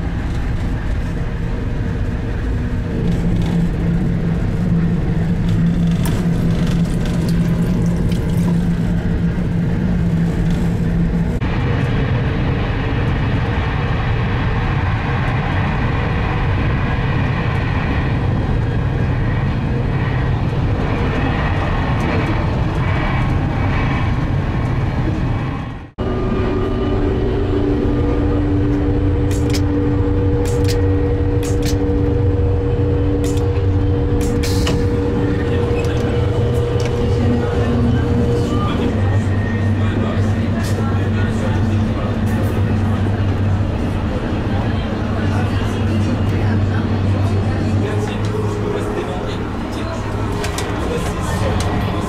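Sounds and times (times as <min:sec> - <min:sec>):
multi-pitch hum: 0:00.0 - 0:52.0
train rumble and hiss: 0:00.0 - 0:52.0.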